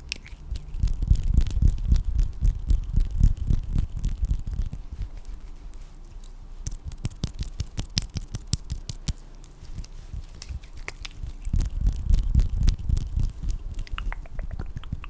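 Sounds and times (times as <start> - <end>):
small sharp clicks and crackles: 0.0 - 15.0.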